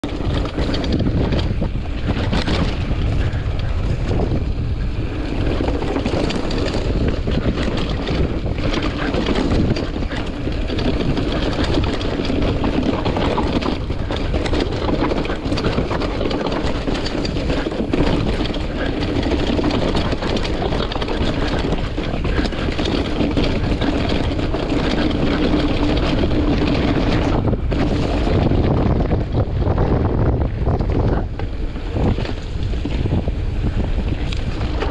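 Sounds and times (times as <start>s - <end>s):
bike rattling and knocking: 0.0s - 34.9s
tyres rumbling on dirt trail: 0.0s - 34.9s
wind buffeting microphone: 0.0s - 34.9s.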